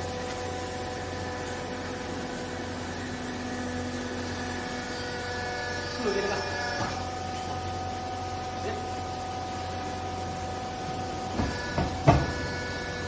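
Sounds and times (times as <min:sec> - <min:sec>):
hydraulic pump motor humming: 0:00.0 - 0:13.0.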